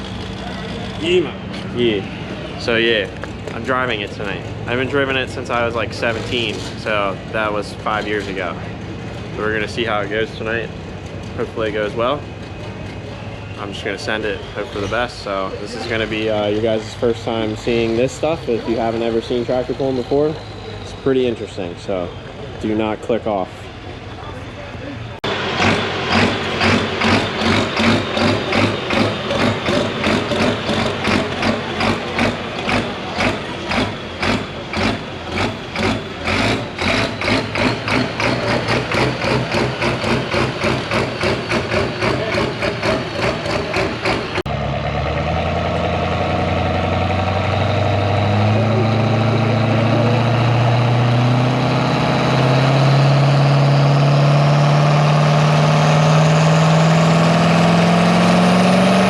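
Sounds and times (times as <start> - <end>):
tractor engine loping: 0.0 - 59.0.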